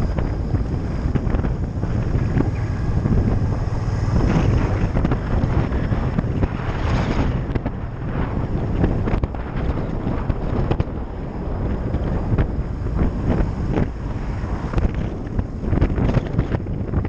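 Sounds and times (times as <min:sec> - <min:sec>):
motorcycle engine and road noise: 0:00.0 - 0:17.0
wind buffeting microphone: 0:00.0 - 0:17.0.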